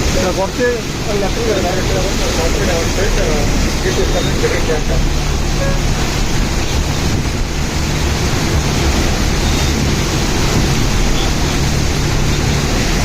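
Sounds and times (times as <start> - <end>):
low engine hum: 0.0 - 13.0
steady rushing noise: 0.0 - 13.0.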